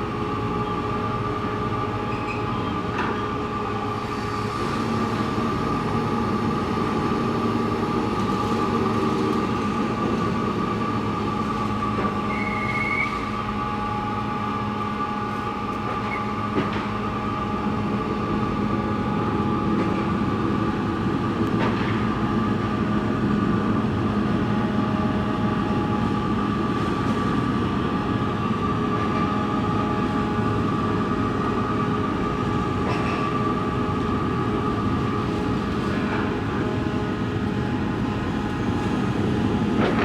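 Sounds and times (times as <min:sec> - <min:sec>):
constant hum: 0:00.0 - 0:40.0
muffled ship diesel engines: 0:00.0 - 0:40.0.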